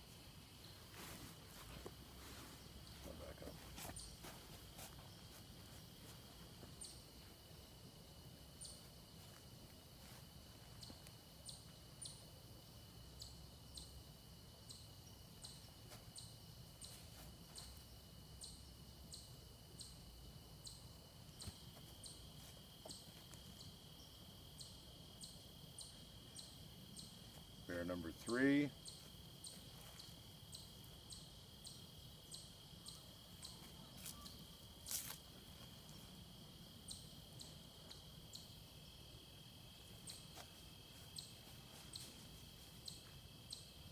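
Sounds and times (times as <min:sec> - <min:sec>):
insect trill: 0:00.0 - 0:43.9.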